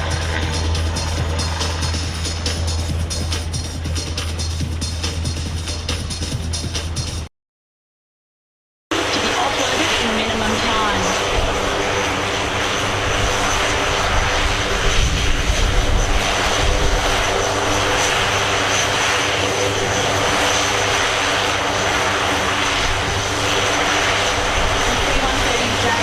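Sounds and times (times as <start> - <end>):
helicopter rotor and turbine whine: 0.0 - 7.3, 8.9 - 26.0.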